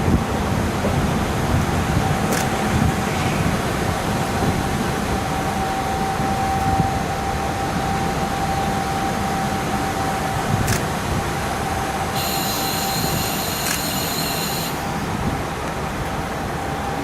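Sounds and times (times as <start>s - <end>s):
diesel railcar running rumble: 0.0s - 17.0s
thin steady whine: 0.0s - 17.0s.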